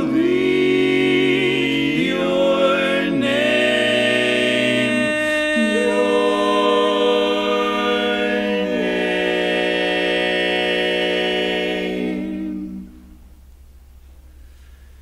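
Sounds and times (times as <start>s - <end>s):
barbershop quartet singing: 0.0s - 13.2s.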